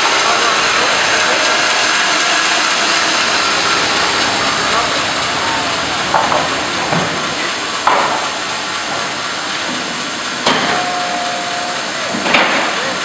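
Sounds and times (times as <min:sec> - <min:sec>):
band sawmill running: 0:00.0 - 0:13.0.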